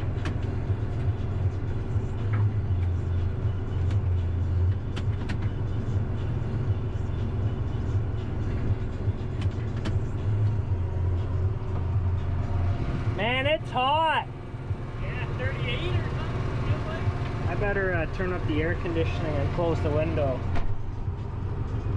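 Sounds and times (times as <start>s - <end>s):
tractor engine drone: 0.0s - 21.9s.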